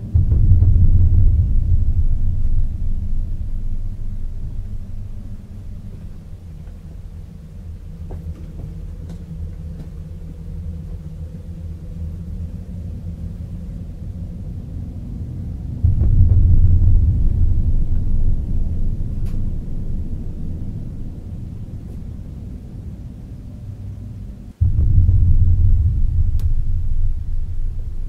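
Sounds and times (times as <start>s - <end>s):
deep low rumbling drone: 0.0s - 28.0s
faint steady hum: 0.0s - 28.0s.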